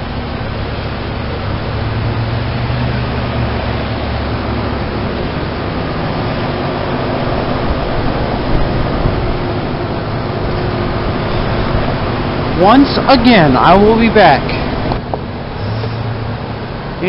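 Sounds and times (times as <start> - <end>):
fan air rushing: 0.0 - 17.0
low compressor hum: 0.0 - 17.0.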